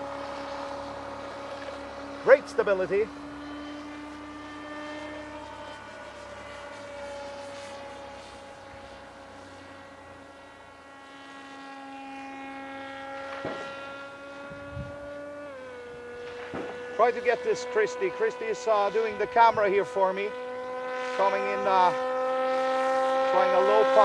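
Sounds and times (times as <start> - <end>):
rc plane electric motor and propeller: 0.0 - 24.0.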